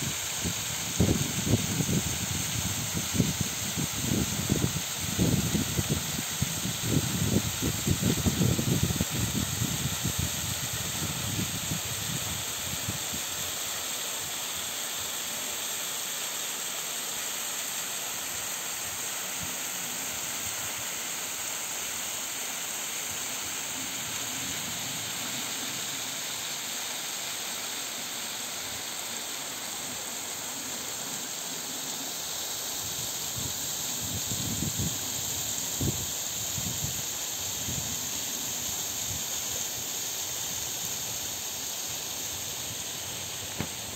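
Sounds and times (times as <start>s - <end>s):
waterfall hissing: 0.0s - 43.9s.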